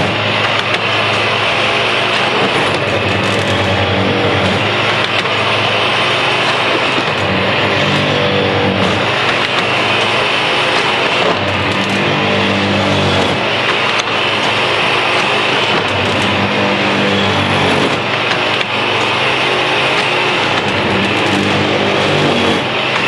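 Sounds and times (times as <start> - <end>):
diesel engine and machinery running: 0.0 - 23.0.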